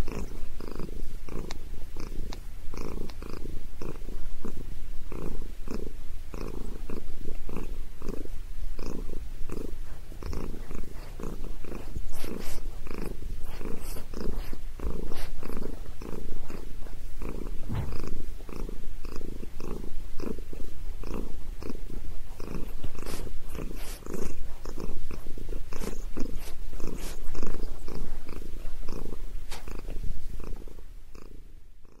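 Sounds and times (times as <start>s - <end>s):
cat purring loudly: 0.0s - 32.0s.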